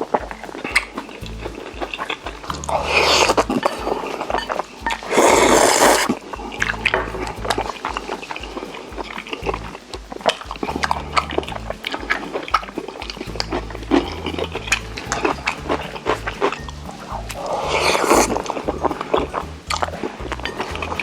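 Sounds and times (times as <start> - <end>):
low background music: 0.0 - 21.0
sticky mouth clicks: 0.2 - 21.0.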